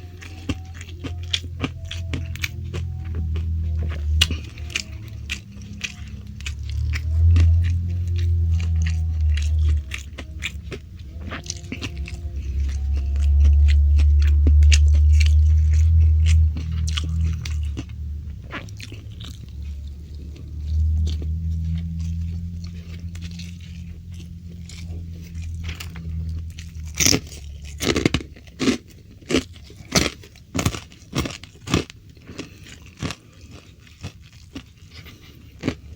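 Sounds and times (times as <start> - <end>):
chewing crunchy food: 0.0 - 35.9
deep low rumble: 0.0 - 35.9.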